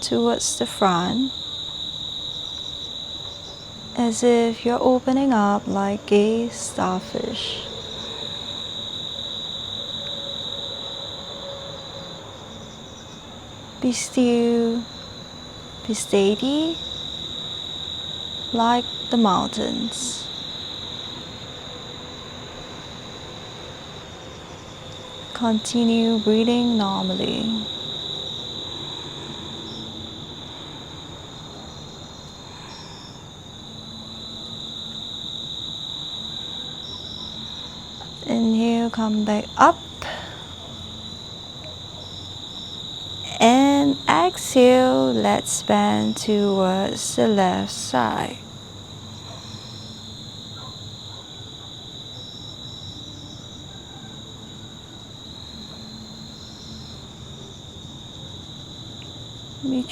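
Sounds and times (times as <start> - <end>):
insect chirps: 0.0 - 59.9
insects droning: 0.0 - 59.9.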